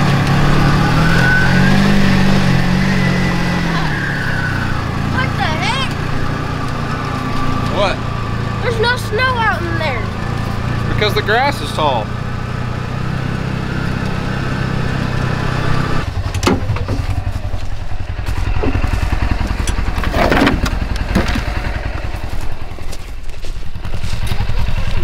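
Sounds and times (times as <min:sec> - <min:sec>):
engine knocks and clatters: 0:00.0 - 0:25.0
utility vehicle engine running: 0:00.0 - 0:25.0.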